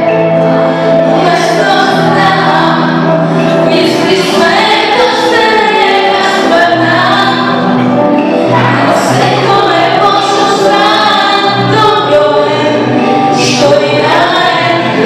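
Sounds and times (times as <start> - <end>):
backing music: 0.0 - 15.0
woman singing into microphone: 0.4 - 7.8, 8.5 - 15.0.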